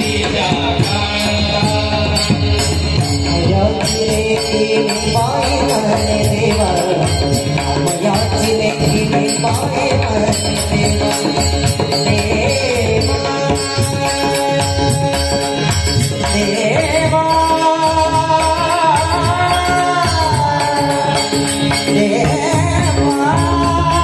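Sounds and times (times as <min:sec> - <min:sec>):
man singing devotional song: 0:00.0 - 0:24.0.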